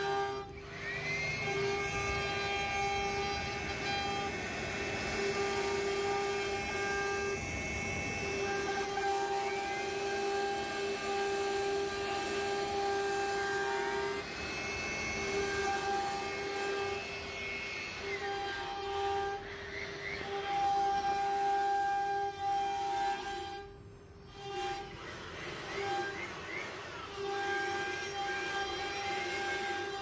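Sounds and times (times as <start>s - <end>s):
router bit rasping wood: 0.0s - 30.0s
router spindle whine: 0.0s - 30.0s.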